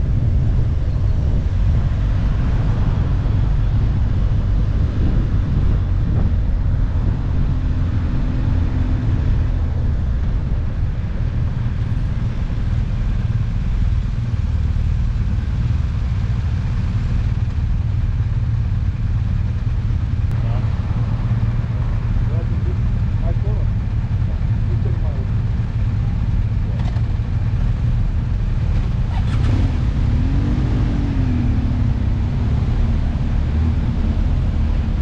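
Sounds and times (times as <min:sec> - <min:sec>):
motorcycle engine rumble: 0:00.0 - 0:35.0
wind rush on microphone: 0:00.0 - 0:35.0.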